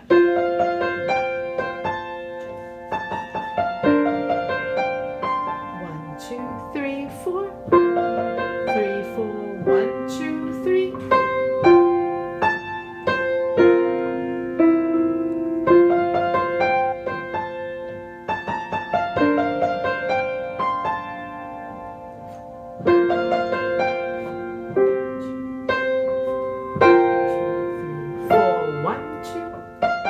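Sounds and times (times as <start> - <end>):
slow piano piece: 0.0 - 30.0.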